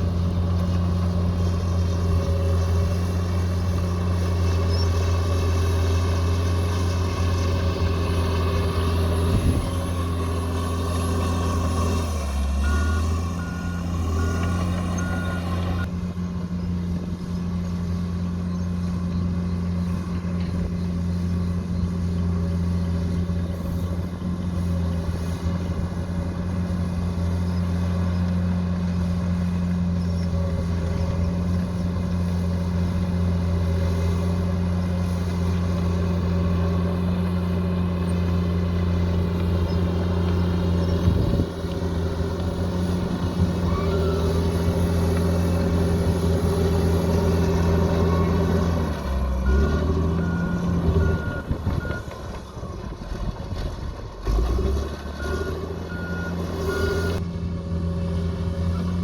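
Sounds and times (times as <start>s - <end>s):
bulldozer engine running: 0.0s - 59.0s.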